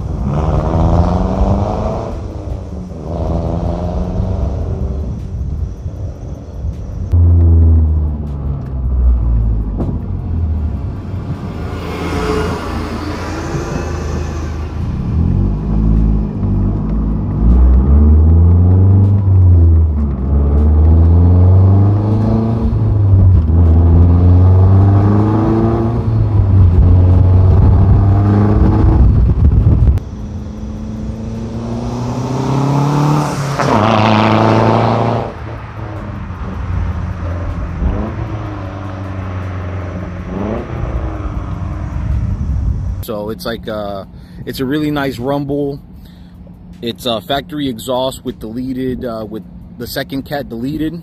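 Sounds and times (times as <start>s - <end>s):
car exhaust rumbling while accelerating: 0.0s - 51.0s
car revving outside: 0.0s - 51.0s.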